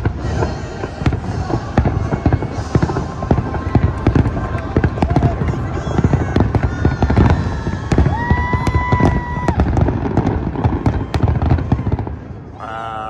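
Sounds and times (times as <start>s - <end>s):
deep rumble of booms: 0.0s - 12.5s
fireworks bangs and crackles: 0.0s - 12.8s.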